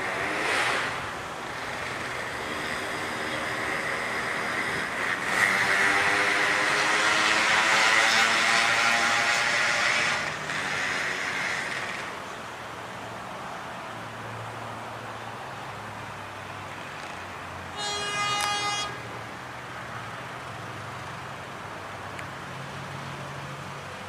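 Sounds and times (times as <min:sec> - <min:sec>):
high hazy whine: 0:00.0 - 0:24.0.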